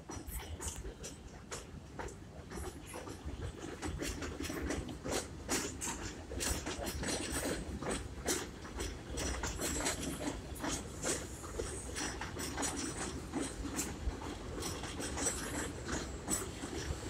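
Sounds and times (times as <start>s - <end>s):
train clicking and clattering: 0.0s - 17.0s
train rumbling: 0.0s - 17.0s.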